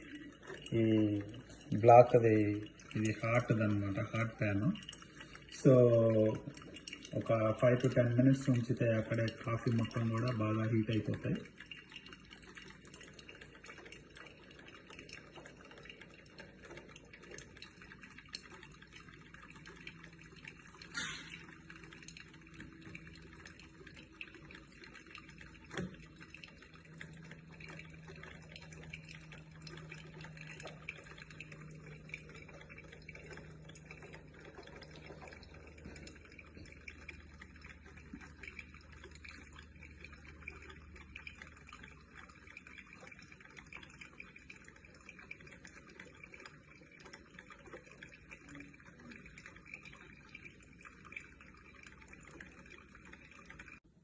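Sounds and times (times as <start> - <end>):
coffee dripping into carafe: 0.0 - 54.0.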